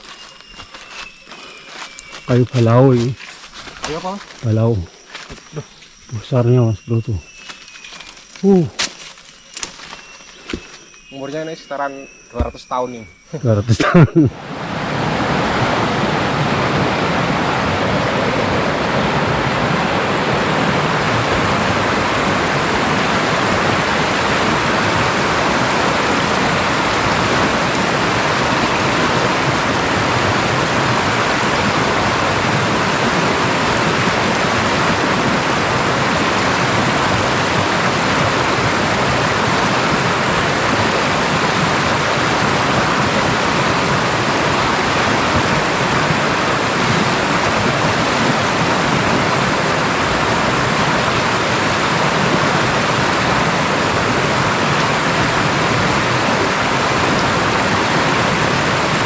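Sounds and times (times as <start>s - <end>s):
rushing river water: 0.0s - 59.0s.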